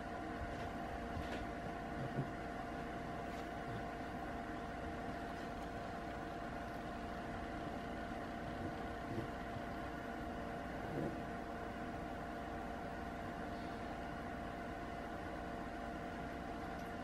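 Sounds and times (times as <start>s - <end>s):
room hum and hiss: 0.0s - 17.0s.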